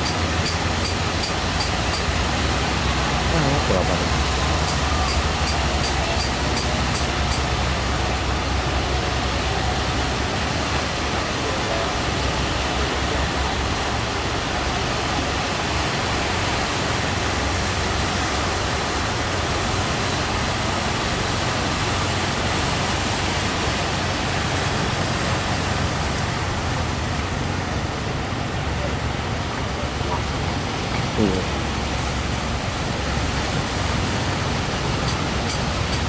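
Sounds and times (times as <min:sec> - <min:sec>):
heavy surf roaring: 0:00.0 - 0:36.0.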